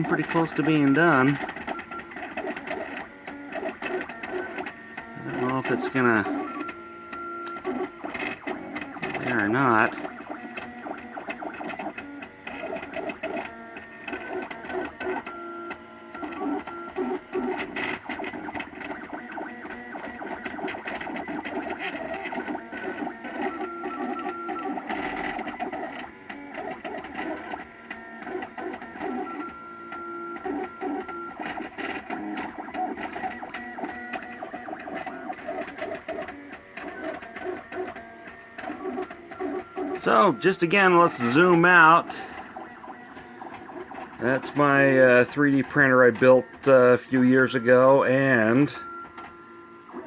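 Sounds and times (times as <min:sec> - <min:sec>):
printer stepper motors whining: 0:00.0 - 0:50.0.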